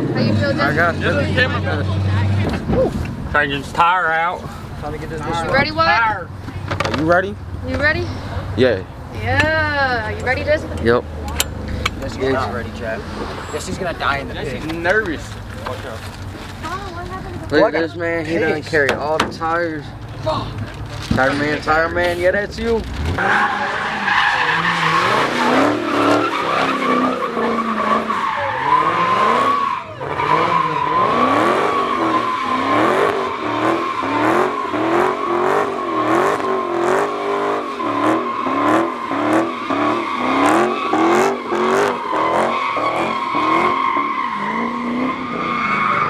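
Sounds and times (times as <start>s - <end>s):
engine revving: 0.0s - 46.0s
tyres squealing: 2.3s - 46.0s.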